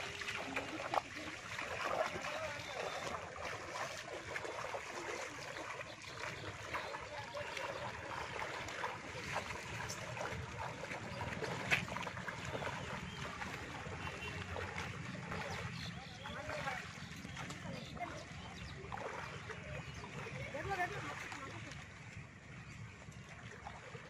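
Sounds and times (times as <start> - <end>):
water sloshing around wading legs: 0.0 - 24.0.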